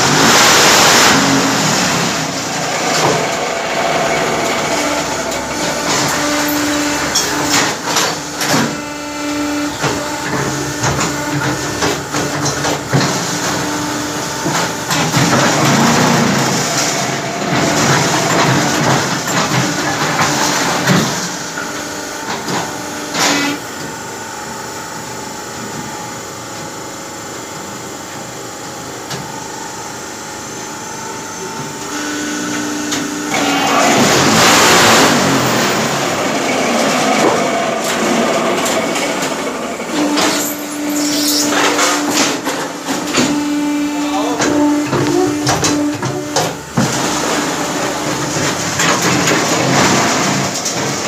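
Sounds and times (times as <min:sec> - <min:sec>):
machine motor hum: 0:00.0 - 0:51.0.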